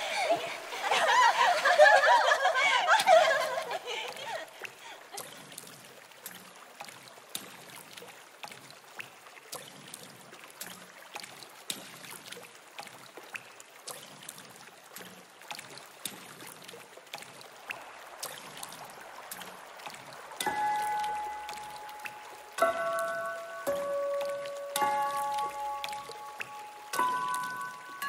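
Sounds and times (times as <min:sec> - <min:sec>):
stream trickling over rocks: 0:00.0 - 0:28.0
water drips: 0:00.0 - 0:28.0.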